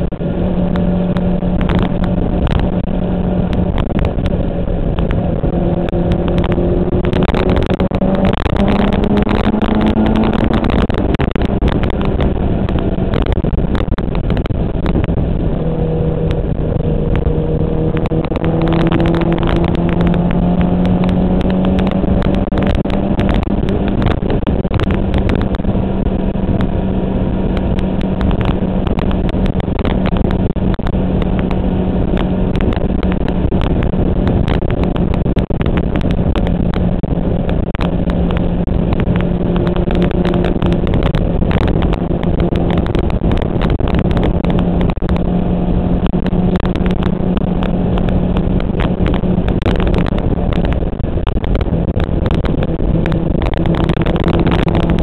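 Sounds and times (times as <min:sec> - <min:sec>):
motorcycle engine cruising: 0:00.0 - 0:55.0
wind buffeting on microphone: 0:00.0 - 0:55.0
wind rush: 0:00.0 - 0:55.0.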